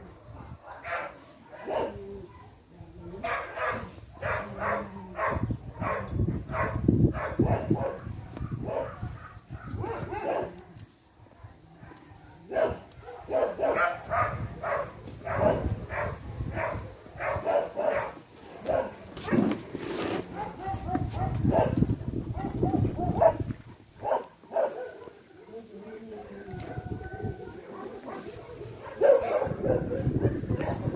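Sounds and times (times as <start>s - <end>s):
dog barking: 0.4s - 2.6s, 3.2s - 10.8s, 11.8s - 19.5s, 20.3s - 30.9s.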